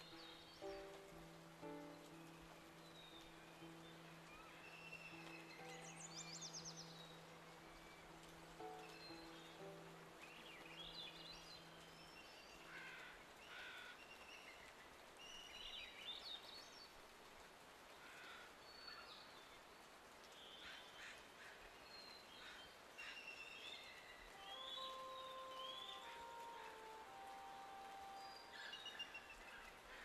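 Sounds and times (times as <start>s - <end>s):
background hiss: 0.0s - 30.0s
faint birdsong: 0.0s - 30.0s.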